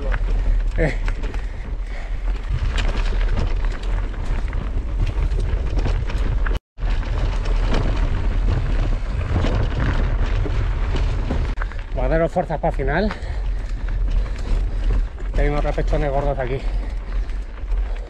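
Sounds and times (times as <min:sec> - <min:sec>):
bike clicks and rattles: 0:00.0 - 0:18.0
wind buffeting microphone: 0:00.0 - 0:18.0.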